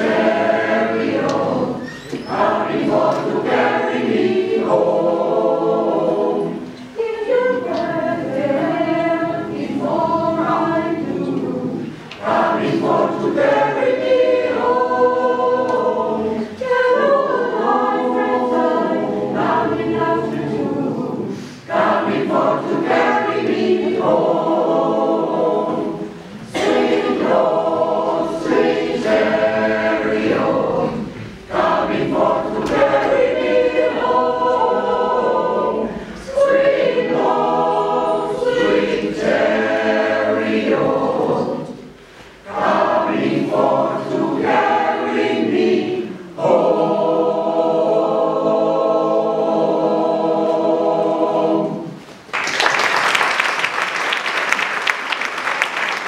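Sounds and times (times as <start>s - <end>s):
mixed choir singing a cappella: 0.0s - 52.3s.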